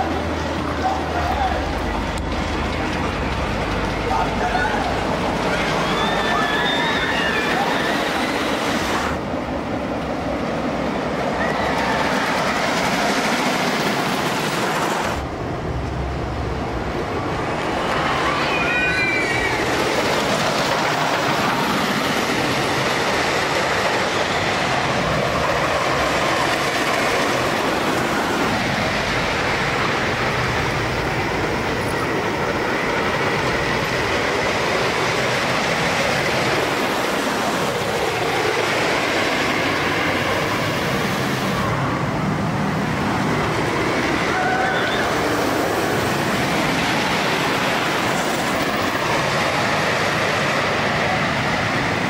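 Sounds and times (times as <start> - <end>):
roller coaster wheels rumbling: 0.0 - 52.0.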